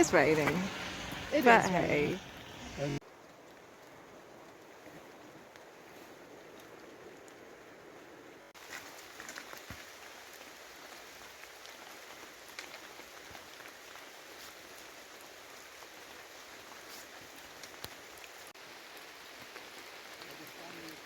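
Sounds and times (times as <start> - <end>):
raindrops tapping close by: 0.0 - 21.0
steady rain falling: 0.0 - 21.0.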